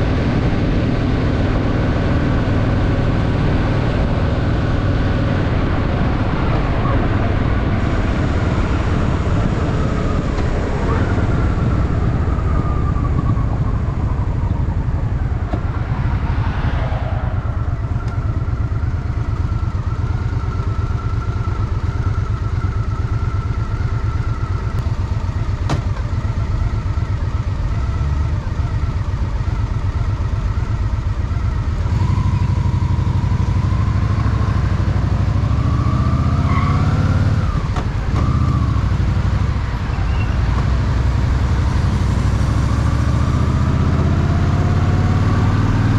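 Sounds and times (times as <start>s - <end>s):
motorcycle engine rumbling: 0.0s - 45.9s.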